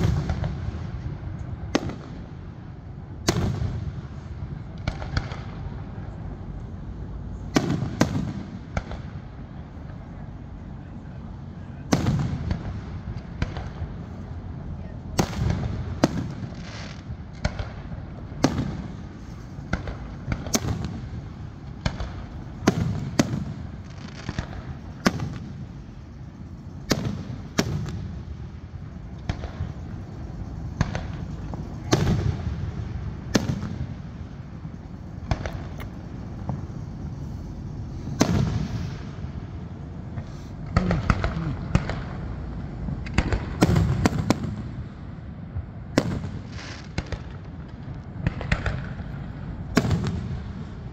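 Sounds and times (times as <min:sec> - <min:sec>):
fireworks bangs: 0:00.0 - 0:06.5, 0:07.3 - 0:50.9.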